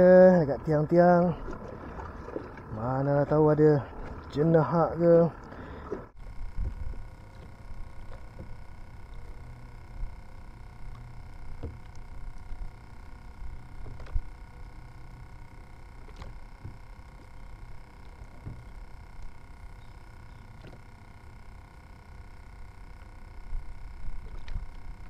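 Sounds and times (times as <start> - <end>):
choppy water: 0.0 - 25.0.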